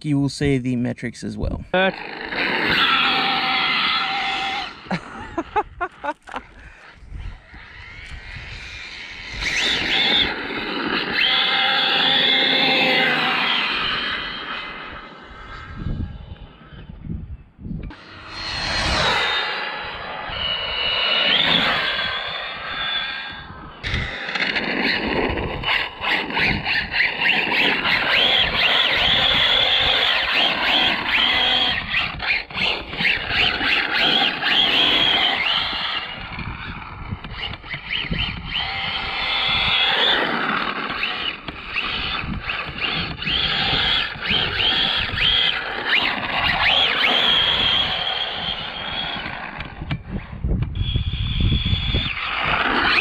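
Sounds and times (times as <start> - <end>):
electric motor whining: 1.9 - 17.2, 17.9 - 53.0.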